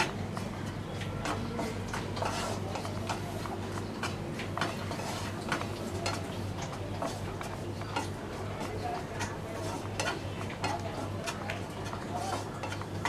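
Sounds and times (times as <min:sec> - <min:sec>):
spatula scraping in a pan: 0:01.1 - 0:13.0.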